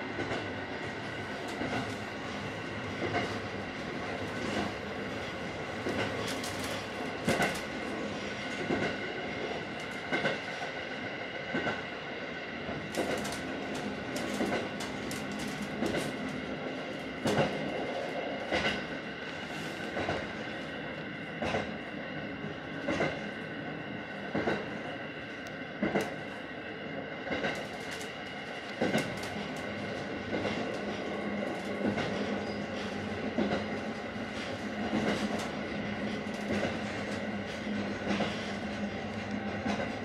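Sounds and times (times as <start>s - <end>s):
train running noise: 0.0s - 40.0s.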